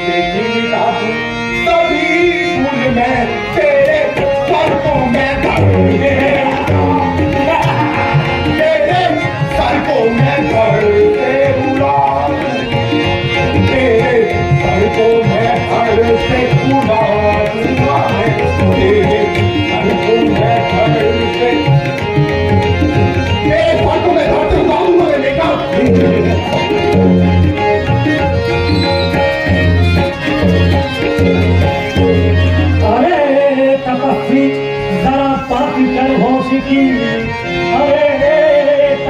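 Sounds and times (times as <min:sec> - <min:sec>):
held melodic accompaniment: 0:00.0 - 0:39.0
tabla drumming: 0:01.6 - 0:39.0.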